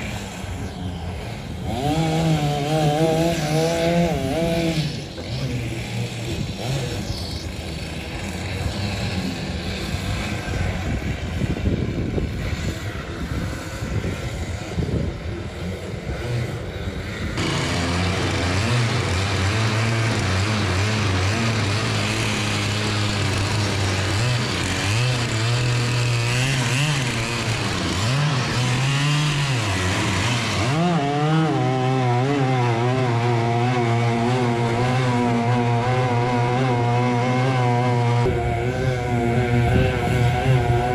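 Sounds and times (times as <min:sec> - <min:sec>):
boat engine running hard: 0:00.0 - 0:40.9.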